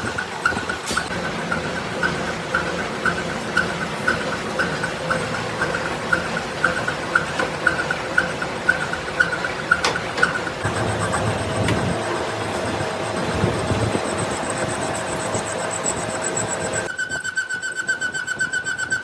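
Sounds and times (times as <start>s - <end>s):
lathe running: 0.0s - 17.0s.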